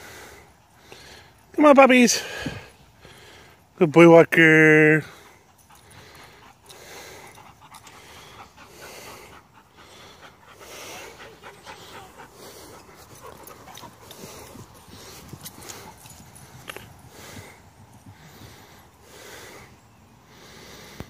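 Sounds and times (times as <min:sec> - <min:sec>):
dogs panting: 0:00.0 - 0:04.1, 0:04.8 - 0:21.0.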